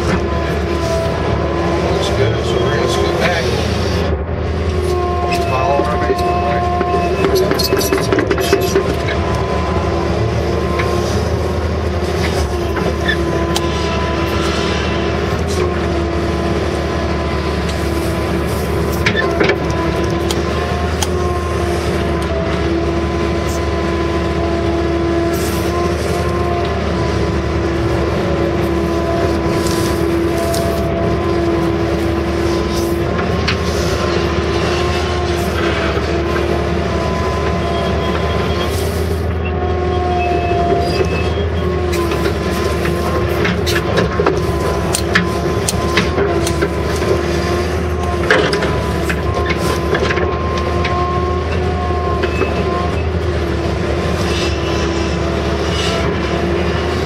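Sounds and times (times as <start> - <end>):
excavator diesel engine with whine: 0.0 - 57.0.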